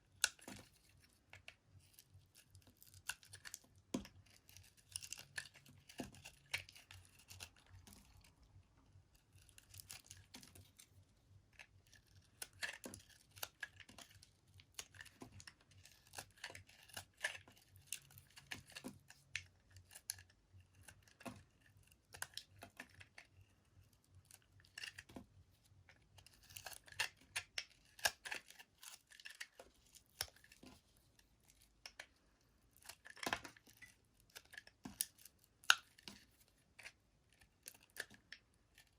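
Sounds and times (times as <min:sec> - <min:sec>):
knife cutting through soap: 0:00.1 - 0:08.4, 0:09.1 - 0:10.9, 0:11.5 - 0:25.3, 0:26.0 - 0:38.9.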